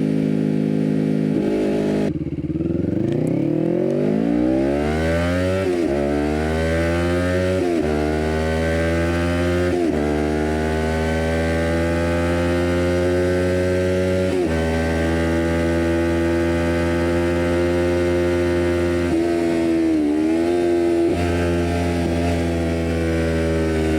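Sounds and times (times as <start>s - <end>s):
motorcycle engine accelerating: 0.0s - 23.9s.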